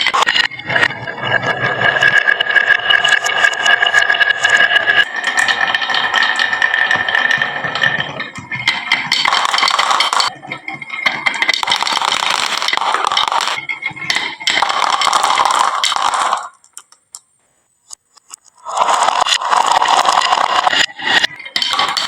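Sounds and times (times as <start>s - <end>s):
marbles rattling down wooden run: 0.0s - 16.8s, 18.6s - 22.0s.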